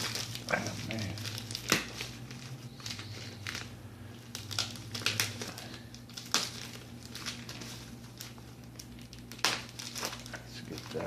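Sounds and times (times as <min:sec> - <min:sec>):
packaging crinkling and crackling: 0:00.0 - 0:11.0
steady low hum: 0:00.0 - 0:11.0.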